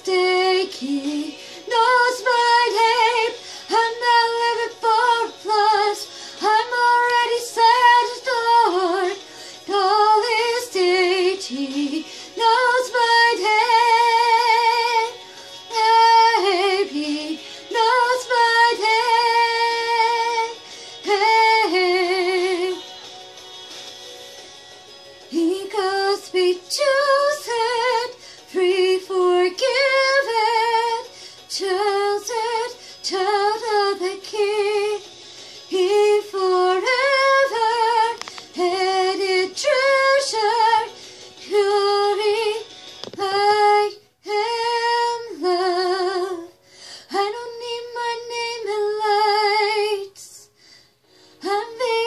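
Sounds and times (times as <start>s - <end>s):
woman singing: 0.0s - 23.2s, 25.2s - 50.5s, 51.4s - 52.0s.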